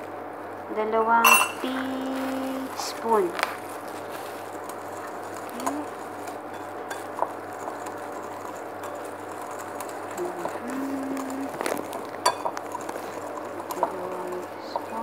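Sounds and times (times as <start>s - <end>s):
whisk stirring flour in bowl: 1.6s - 15.0s.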